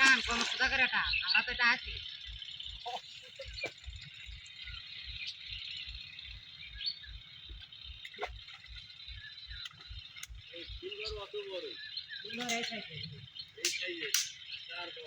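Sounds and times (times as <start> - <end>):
chorus of high chirping: 0.0 - 15.0
low regular throb: 0.0 - 15.0.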